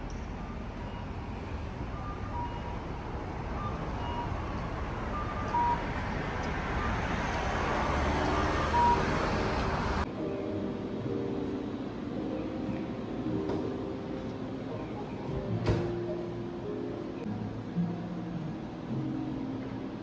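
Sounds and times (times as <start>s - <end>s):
rumble of road noise: 0.0s - 20.0s.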